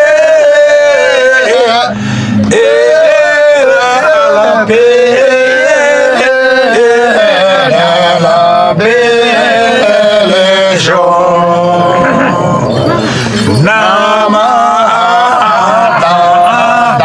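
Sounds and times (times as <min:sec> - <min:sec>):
men singing a folk song: 0:00.0 - 0:17.0.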